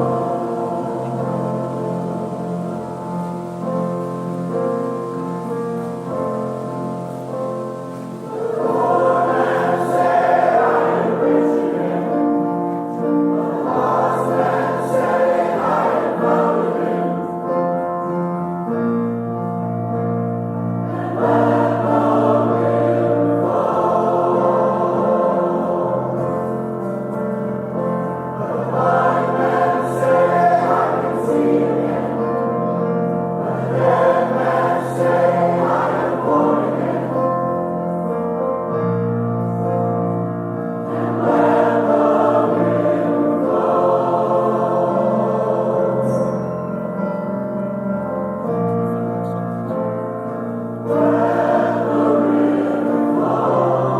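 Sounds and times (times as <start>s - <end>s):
choir singing a hymn: 0.0s - 53.9s
sustained instrumental accompaniment: 0.0s - 53.9s.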